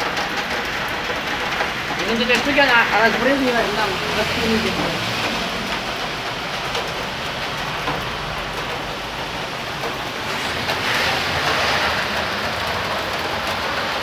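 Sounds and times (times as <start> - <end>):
rain hissing: 0.0 - 14.0
spraying water: 0.0 - 14.0.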